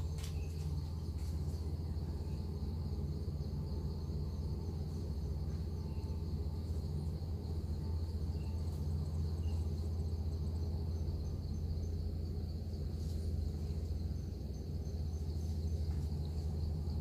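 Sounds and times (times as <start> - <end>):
insects chirring: 0.0 - 17.0
low steady rumble: 0.0 - 17.0.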